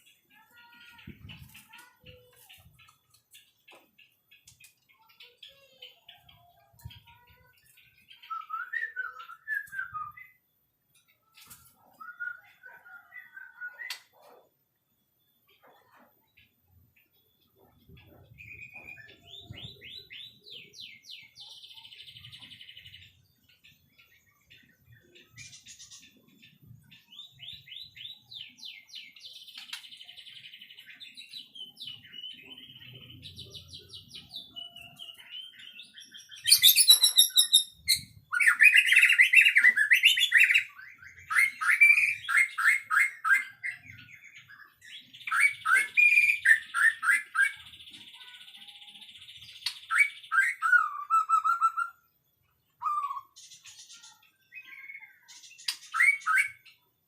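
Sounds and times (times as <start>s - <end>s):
bird singing trills: 0.0s - 57.0s.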